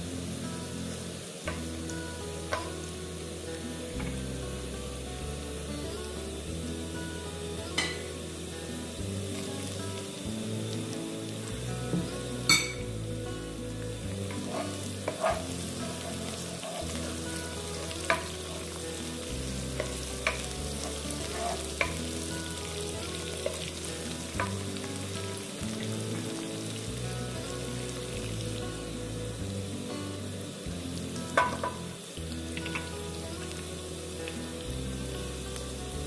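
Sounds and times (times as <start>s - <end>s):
chillies sizzling in hot oil: 0.0s - 36.0s.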